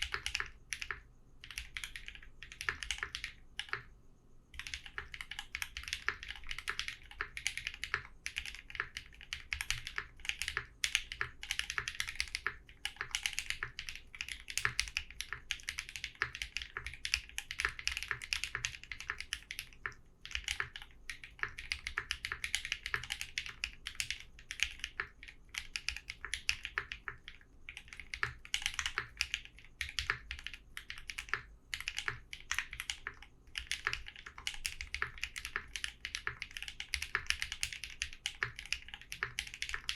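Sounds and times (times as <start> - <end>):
clacking mechanical keyboard typing: 0.0 - 3.9, 4.6 - 39.9.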